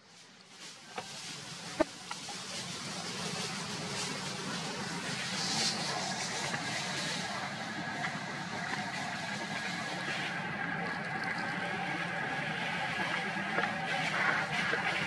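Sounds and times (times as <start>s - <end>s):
low engine-like hum: 2.0s - 15.0s.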